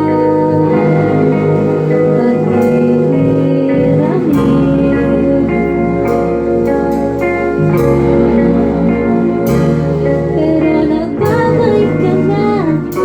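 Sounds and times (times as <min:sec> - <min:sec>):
bass line: 0:00.0 - 0:13.0
guitars: 0:00.0 - 0:13.0.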